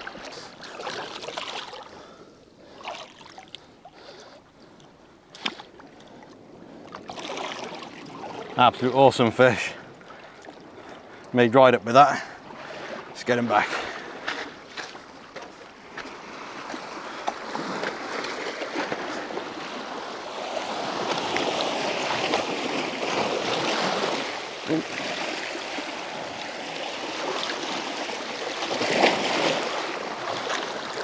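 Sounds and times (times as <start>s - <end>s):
waves splashing over rocks: 5.3s - 31.0s.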